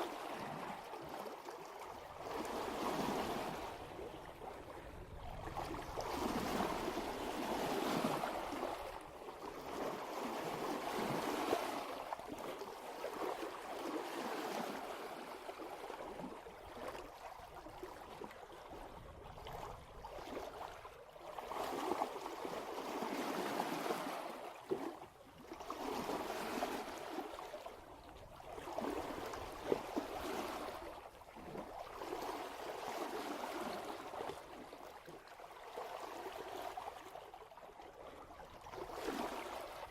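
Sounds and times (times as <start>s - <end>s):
water gurgling along hull: 0.0s - 39.9s.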